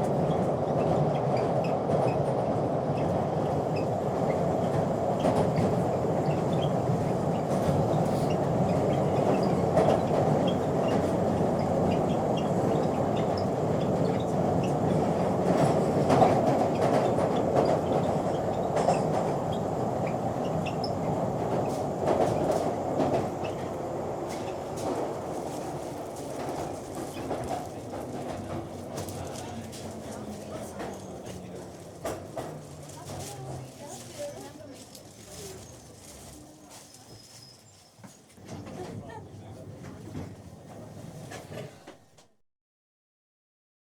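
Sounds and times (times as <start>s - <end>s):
train wheels rumbling on track: 0.0s - 42.1s.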